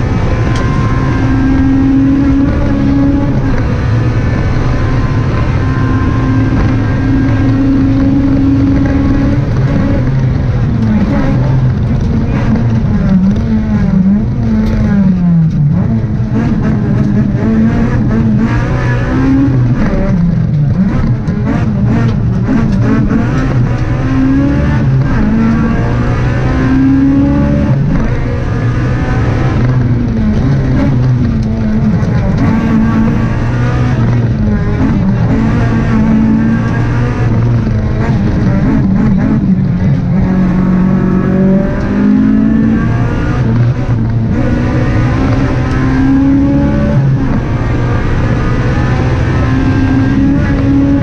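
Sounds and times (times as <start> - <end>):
car engine revving hard: 0.0 - 51.0
road and tyre noise: 0.0 - 51.0.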